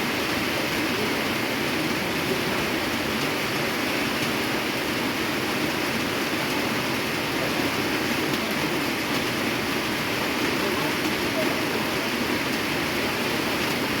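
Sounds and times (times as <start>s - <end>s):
heavy rain on a tin roof: 0.0s - 14.0s.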